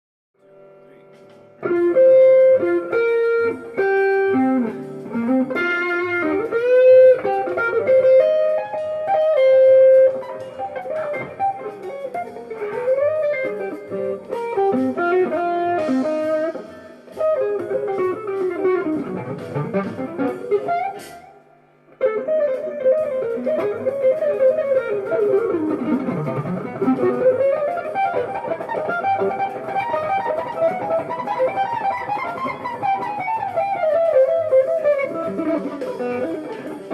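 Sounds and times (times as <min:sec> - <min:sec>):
jazz fusion guitar music: 0:00.4 - 0:36.9.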